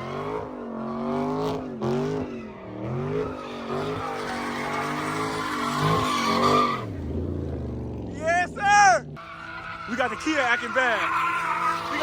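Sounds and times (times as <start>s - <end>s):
tires squealing: 0.0s - 7.3s, 8.1s - 12.0s
car engine revving: 0.0s - 12.0s.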